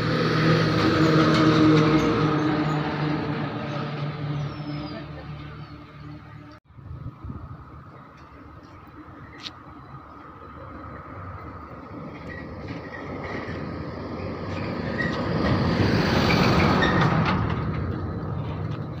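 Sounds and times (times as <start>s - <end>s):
truck diesel engine passing: 0.0s - 19.0s
truck tyres on road: 0.0s - 19.0s.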